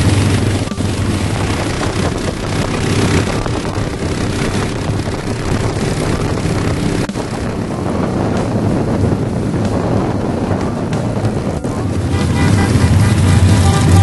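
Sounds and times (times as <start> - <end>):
motorcycle engines droning: 0.0 - 14.0
wind buffeting microphone: 0.0 - 14.0.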